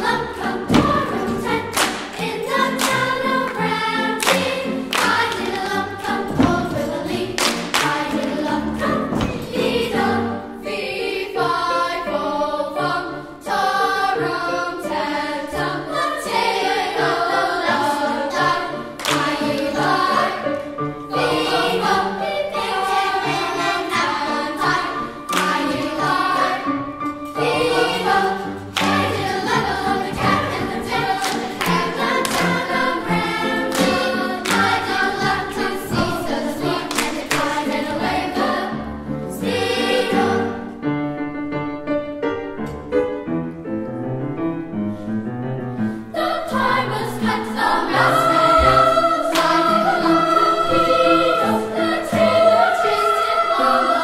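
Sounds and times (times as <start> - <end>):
children's choir singing: 0.0 - 41.4, 45.9 - 54.0
piano: 0.0 - 54.0.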